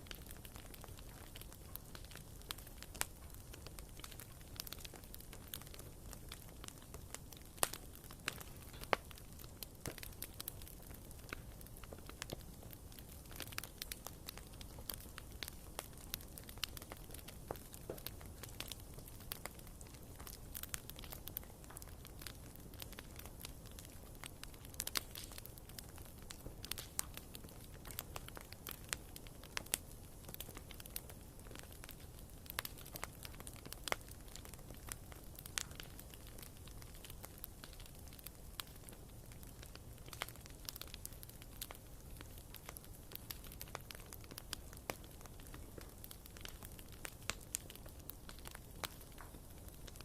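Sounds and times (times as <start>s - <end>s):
logs crackling and popping: 0.0s - 50.0s.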